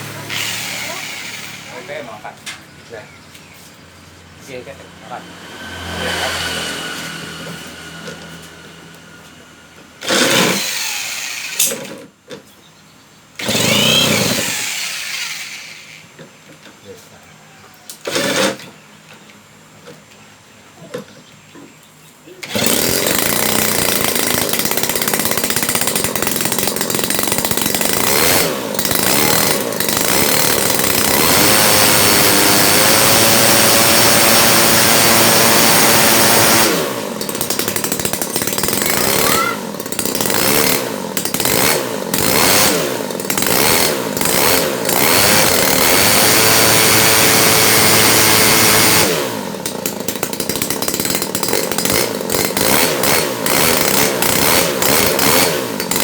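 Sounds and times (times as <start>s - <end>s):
small engine revving: 0.0s - 3.6s, 4.4s - 12.1s, 13.4s - 16.2s, 17.9s - 18.8s, 22.3s - 56.0s.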